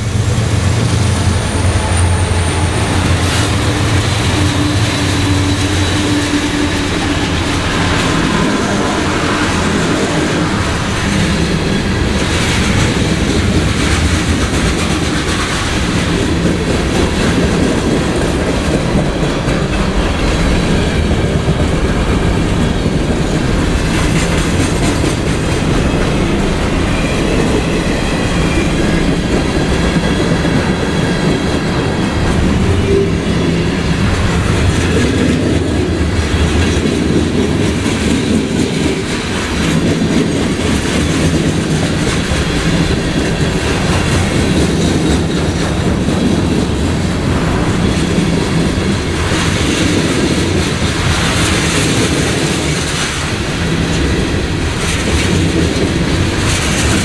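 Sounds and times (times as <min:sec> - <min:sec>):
freight train rumbling past: 0:00.0 - 0:57.0
steel wheels clattering on rails: 0:00.0 - 0:57.0.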